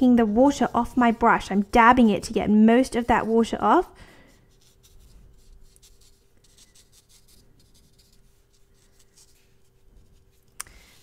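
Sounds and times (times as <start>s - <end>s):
paintbrush strokes on paper: 0.0s - 11.0s.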